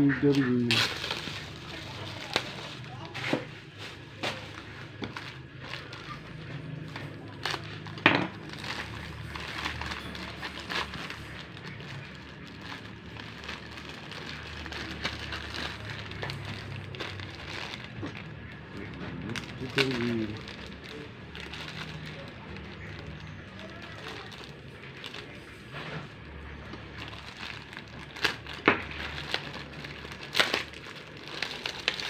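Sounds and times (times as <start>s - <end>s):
plastic bag crinkling: 0.3s - 32.0s.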